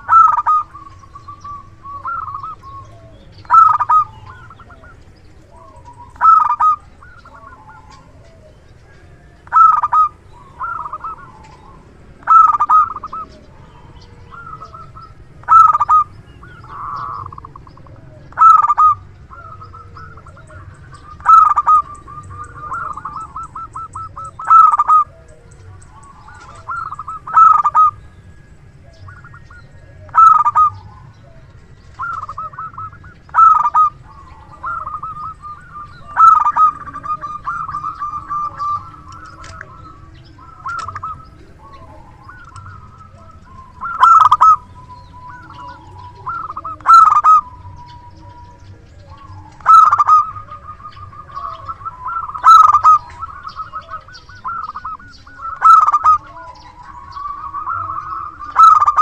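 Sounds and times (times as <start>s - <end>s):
zebra dove cooing: 0.0s - 59.0s.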